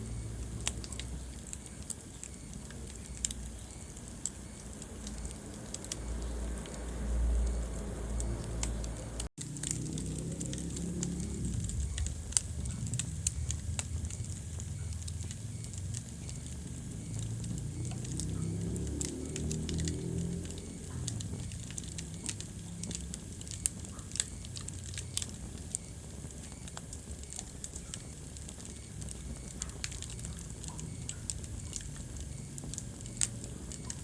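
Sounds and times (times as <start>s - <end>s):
low rumble of flames: 0.0s - 34.0s
wood fire pops and snaps: 0.0s - 34.0s.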